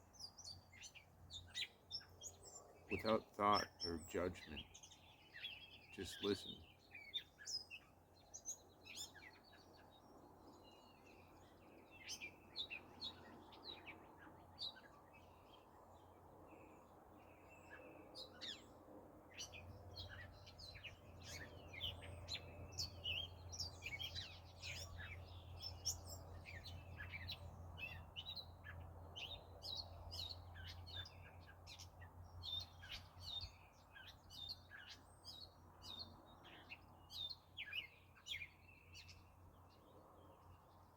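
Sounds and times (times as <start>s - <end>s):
birds chirping and singing: 0.0s - 40.9s.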